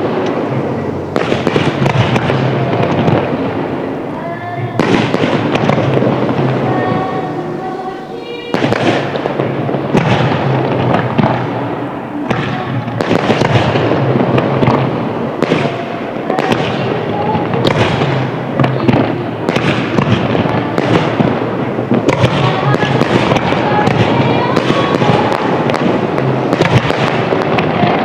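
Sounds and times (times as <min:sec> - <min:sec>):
fireworks booming: 0:00.0 - 0:28.0
fireworks crackling: 0:00.0 - 0:28.0.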